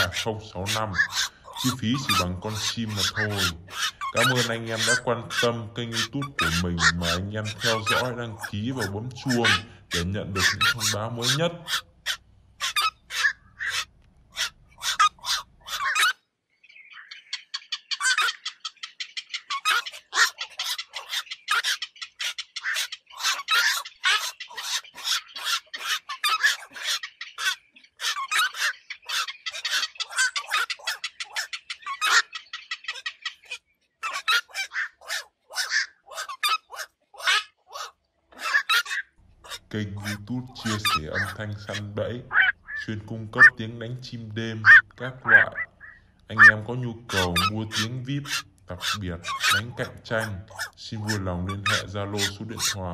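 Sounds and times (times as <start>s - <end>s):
night herons calling: 0.0s - 52.9s.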